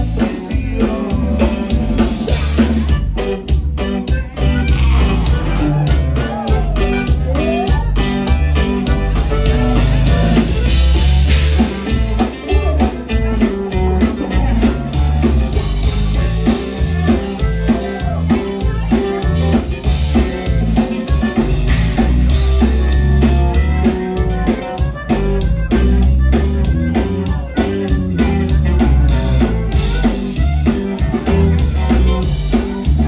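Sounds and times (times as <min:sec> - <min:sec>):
button accordion: 0:00.0 - 0:33.0
drum kit beat: 0:00.0 - 0:33.0
electric bass: 0:00.0 - 0:33.0
guitar: 0:00.0 - 0:33.0.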